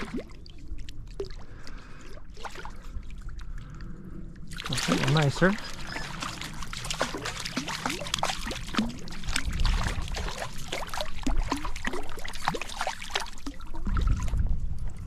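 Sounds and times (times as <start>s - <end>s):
stream water gurgling and splashing: 0.0s - 3.8s, 4.4s - 15.0s.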